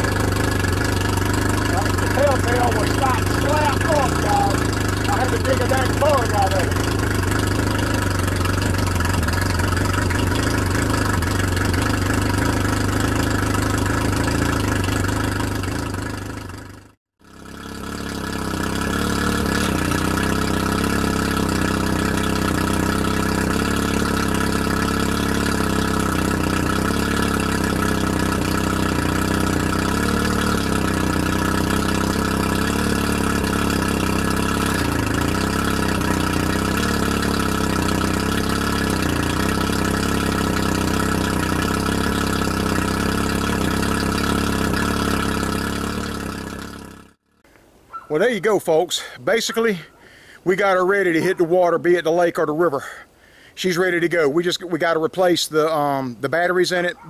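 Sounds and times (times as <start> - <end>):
propeller throwing water spray: 0.0 - 47.2
outboard motor running: 0.0 - 57.0.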